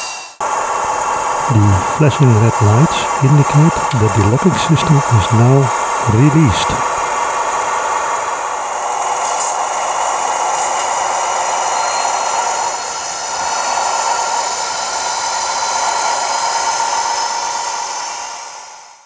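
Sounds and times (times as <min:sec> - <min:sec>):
diesel engine running: 0:00.4 - 0:18.3.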